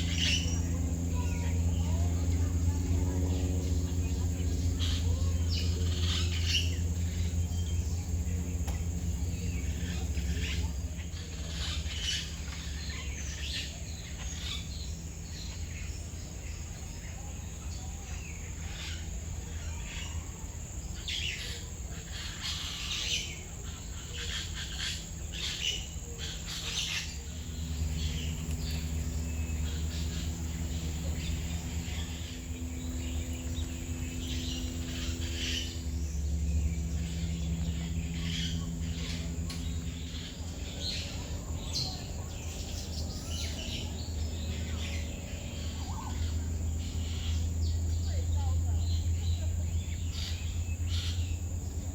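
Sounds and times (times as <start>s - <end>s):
birds chirping and calling: 0.0s - 51.9s
steady low hum: 0.0s - 51.9s.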